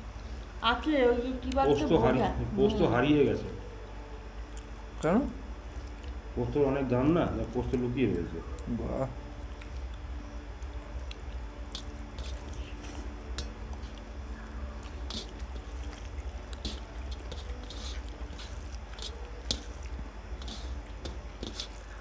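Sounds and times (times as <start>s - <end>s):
steady low hum: 0.0s - 22.0s
people eating with fingers: 3.7s - 22.0s.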